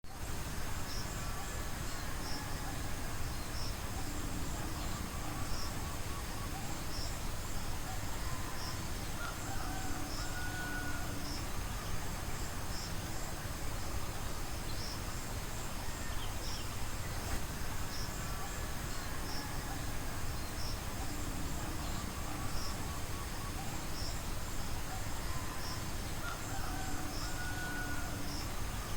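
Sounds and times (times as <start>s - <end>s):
insects buzzing: 0.1s - 28.9s.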